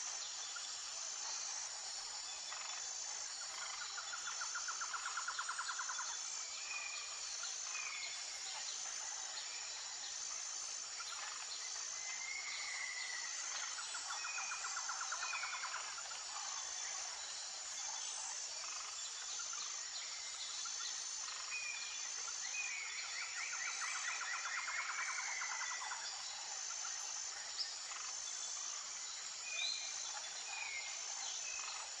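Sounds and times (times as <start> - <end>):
insects singing in chorus: 0.0 - 32.0.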